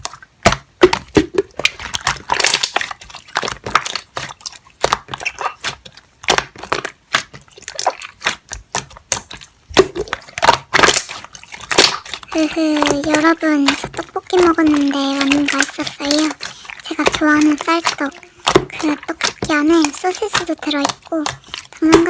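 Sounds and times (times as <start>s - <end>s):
slime squished by hand: 0.0s - 22.0s.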